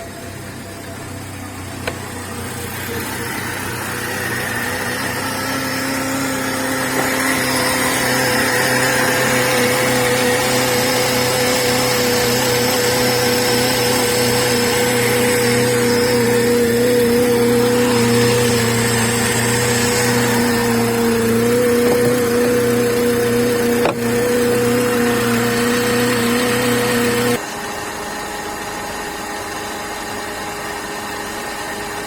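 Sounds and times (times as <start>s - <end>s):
car engine running with whine: 0.0s - 32.0s.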